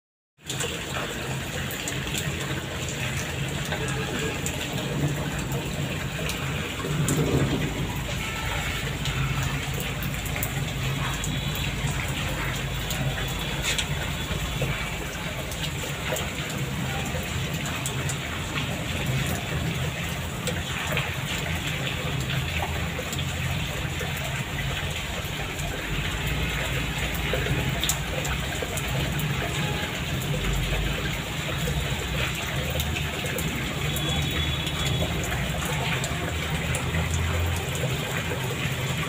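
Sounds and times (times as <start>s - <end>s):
heavy rain falling: 0.4s - 39.0s
raindrops pattering on surfaces: 0.4s - 39.0s.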